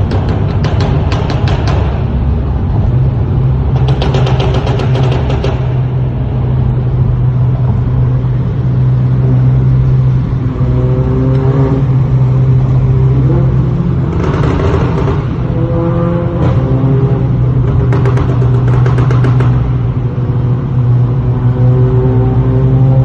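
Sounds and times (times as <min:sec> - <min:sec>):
car engine and exhaust revving: 0:00.0 - 0:23.0.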